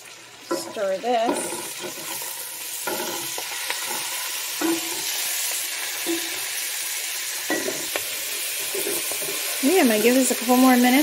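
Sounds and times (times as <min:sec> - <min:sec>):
spinach sizzling in oil: 0:00.0 - 0:11.0
spatula scraping a pan: 0:00.5 - 0:10.6.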